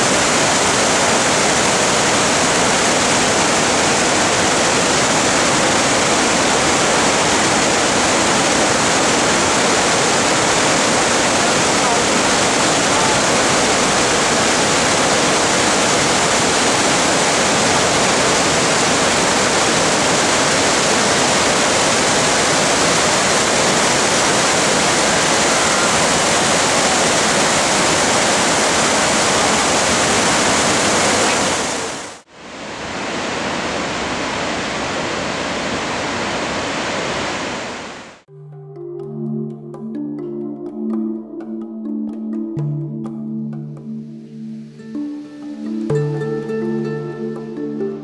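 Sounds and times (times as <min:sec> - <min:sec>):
waterfall rushing: 0:00.0 - 0:38.3, 0:44.6 - 0:48.0.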